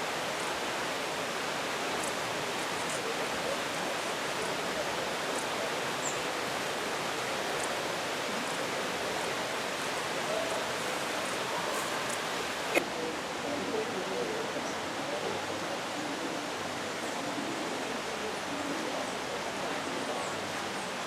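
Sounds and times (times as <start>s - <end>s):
falling water rushing: 0.0s - 21.0s.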